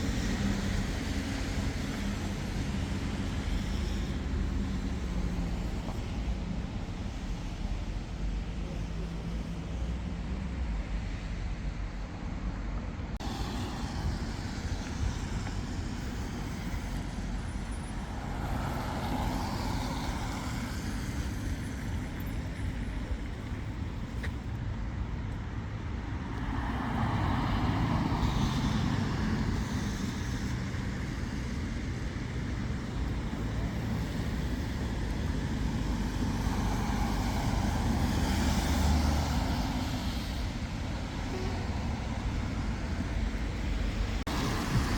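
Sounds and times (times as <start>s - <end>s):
road traffic rumble: 0.0s - 44.9s
vehicles passing close by: 0.0s - 44.9s.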